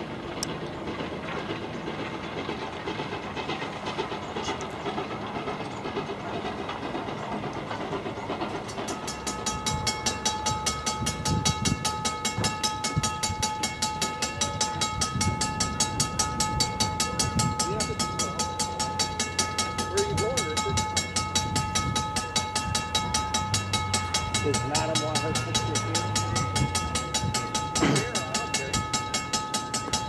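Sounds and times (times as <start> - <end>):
steam exhaust chuffs: 0.0 - 30.0
steam locomotive rumble: 0.0 - 30.0.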